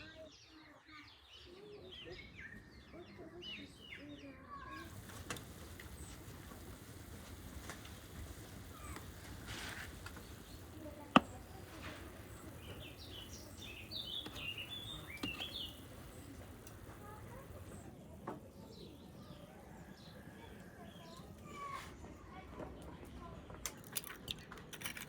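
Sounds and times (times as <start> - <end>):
small birds chirping: 0.0 - 23.9
faint outdoor background: 0.0 - 25.0.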